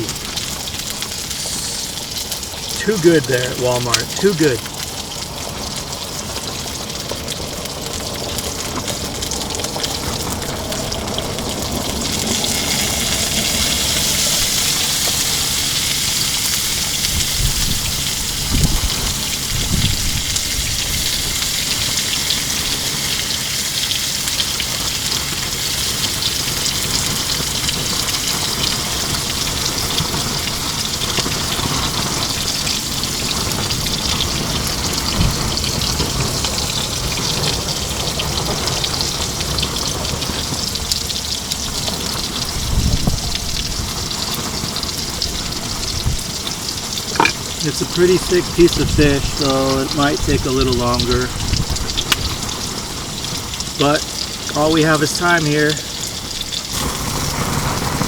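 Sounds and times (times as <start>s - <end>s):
fish sizzling in a pan: 0.0s - 58.0s.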